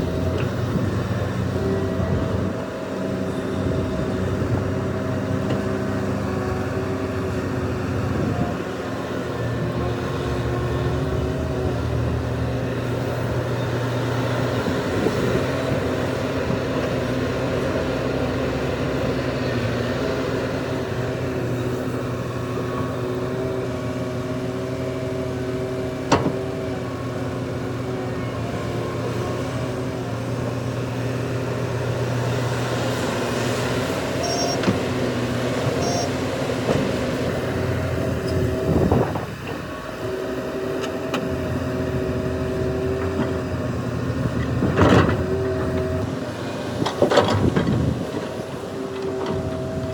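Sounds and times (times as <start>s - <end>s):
diesel machinery engine drone: 0.0s - 49.9s.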